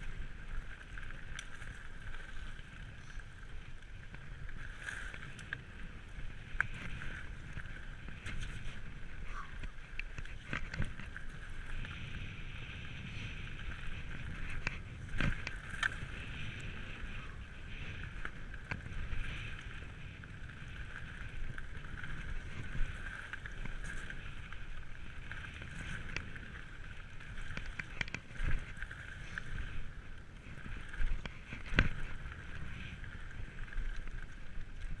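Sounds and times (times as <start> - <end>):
bike knocking and rattling: 0.0 - 35.0
wind on microphone: 0.0 - 35.0.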